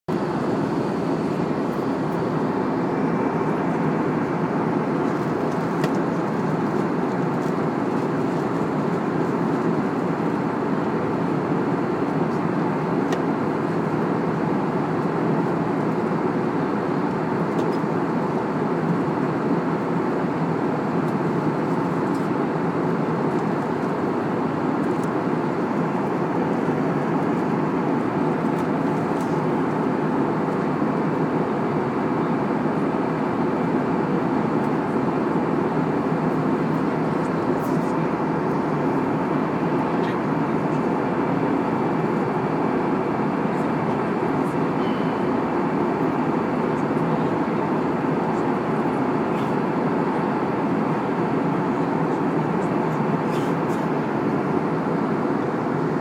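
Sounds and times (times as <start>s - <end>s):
airplane cabin drone: 0.1s - 56.0s.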